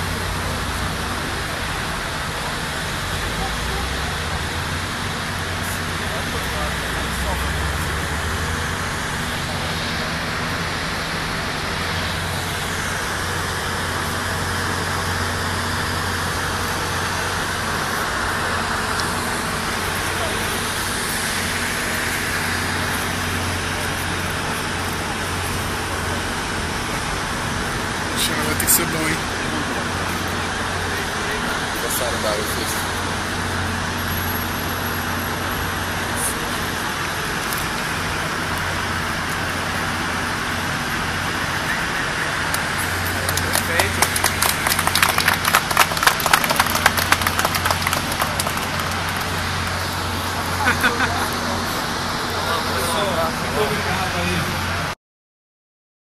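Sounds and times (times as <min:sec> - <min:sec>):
constant low hum: 0:00.0 - 0:54.9
even outdoor rush: 0:00.0 - 0:55.0.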